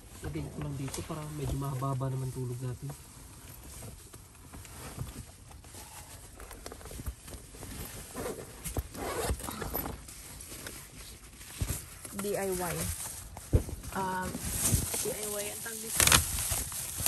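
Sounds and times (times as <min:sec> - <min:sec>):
cloth rustling: 0:03.0 - 0:17.0.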